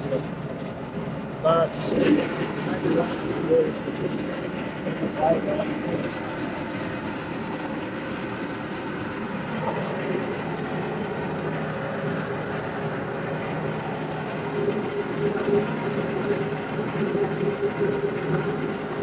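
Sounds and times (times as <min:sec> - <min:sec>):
air conditioning unit running: 0:00.0 - 0:19.0.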